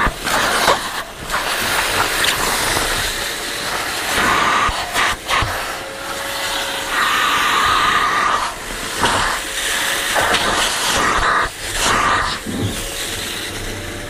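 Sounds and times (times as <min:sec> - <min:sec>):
vacuum suction rushing air: 0:00.0 - 0:14.0.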